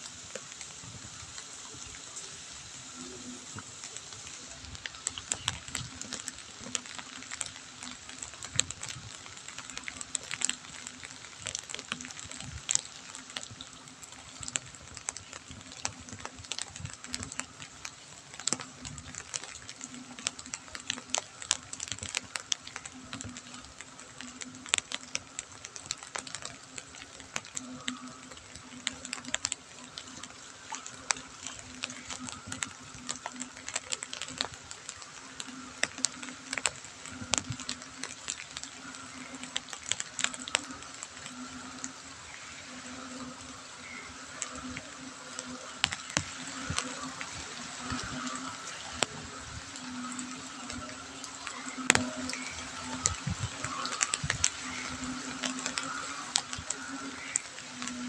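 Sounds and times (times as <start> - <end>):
drizzle pattering on pavement: 0.0 - 58.0.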